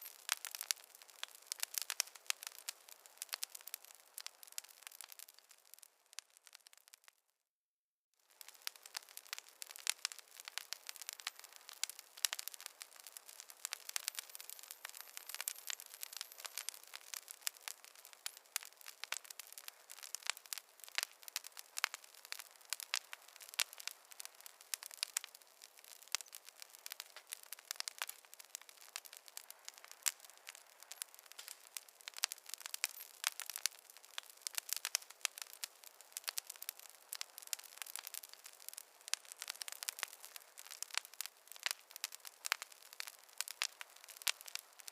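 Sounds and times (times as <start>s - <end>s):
wood fire crackling: 0.0s - 7.2s, 8.2s - 44.9s.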